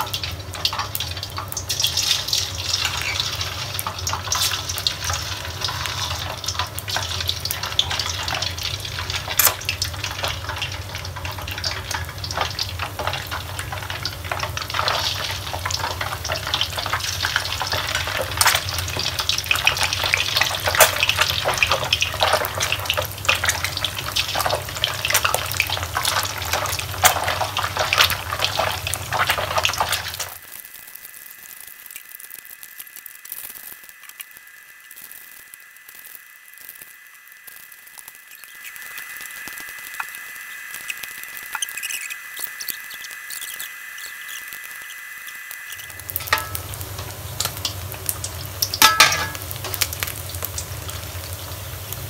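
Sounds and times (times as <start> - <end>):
fish deep-frying in hot oil: 0.0 - 52.0.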